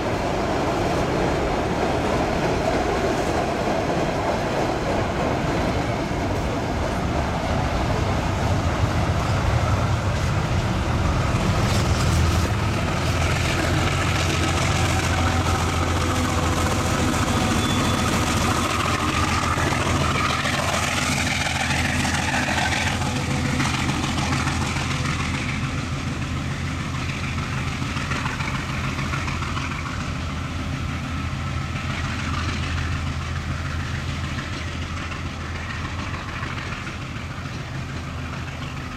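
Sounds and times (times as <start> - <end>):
train wheels on rail: 0.0 - 38.9.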